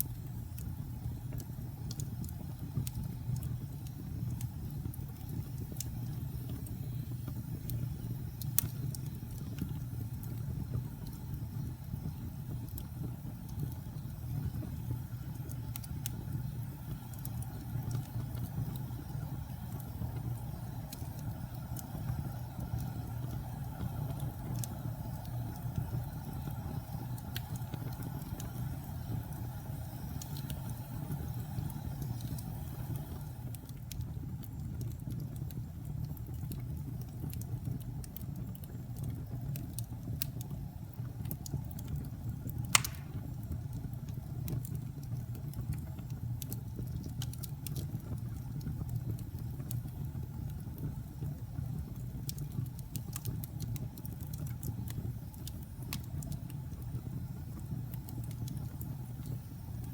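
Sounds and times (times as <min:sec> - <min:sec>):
fire crackles: 0:00.0 - 0:59.9
flames rushing: 0:00.0 - 0:59.9
wood fire popping: 0:00.0 - 0:59.9.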